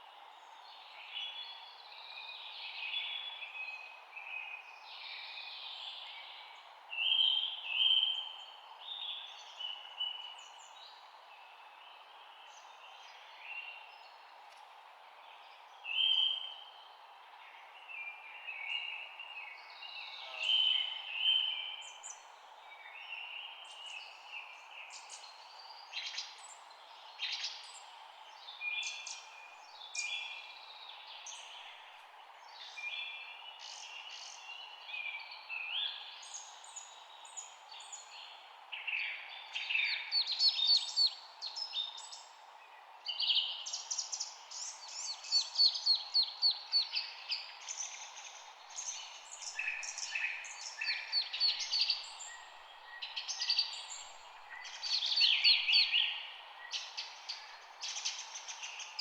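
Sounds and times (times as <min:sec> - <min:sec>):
steady background hiss: 0:04.1 - 0:59.0.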